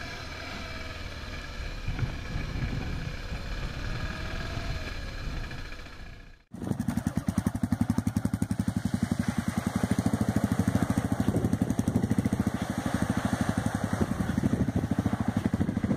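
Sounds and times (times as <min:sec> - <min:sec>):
motorcycle engine idling: 0:00.0 - 0:15.9
motorcycle riding noise: 0:00.0 - 0:15.9.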